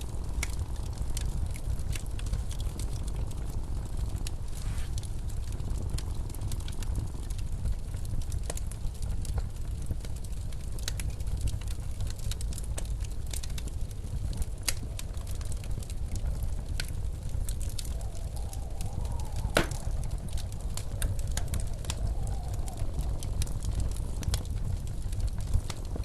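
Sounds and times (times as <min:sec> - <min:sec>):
low rumble of wind: 0:00.0 - 0:26.0
wood fire crackling: 0:00.0 - 0:26.0.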